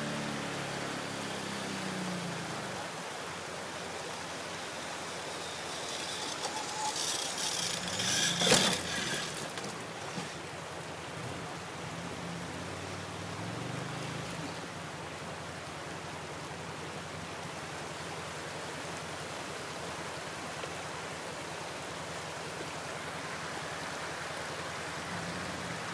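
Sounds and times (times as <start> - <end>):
fast river flowing: 0.0 - 25.9.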